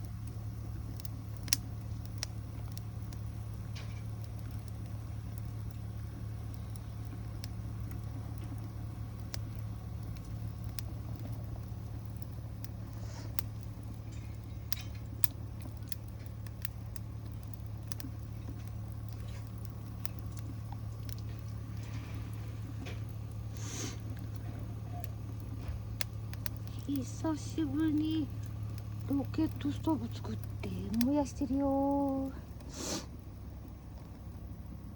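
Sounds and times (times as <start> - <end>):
stove low rumble: 0.0 - 34.9
wood fire crackling and popping: 0.0 - 34.9.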